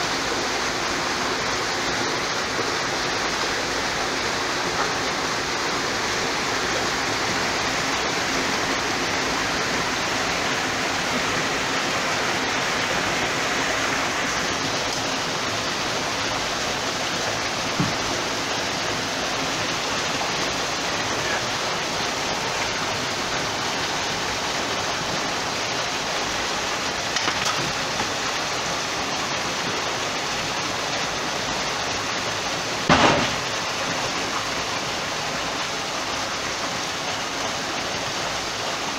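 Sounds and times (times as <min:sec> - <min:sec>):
water pouring and rushing: 0:00.0 - 0:38.9.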